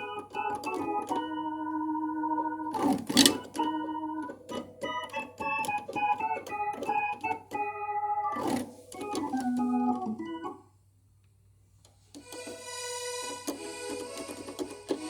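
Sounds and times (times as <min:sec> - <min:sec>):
keyboard notes and chords: 0:00.0 - 0:10.7, 0:12.2 - 0:15.0.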